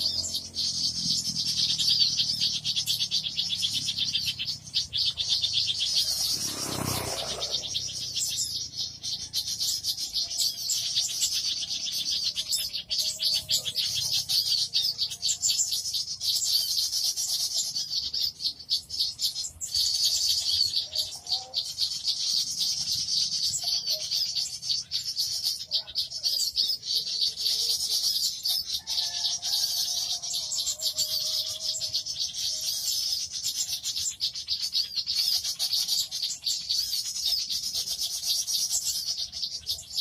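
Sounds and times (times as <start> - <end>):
small birds chirping and trilling: 0.0 - 40.0.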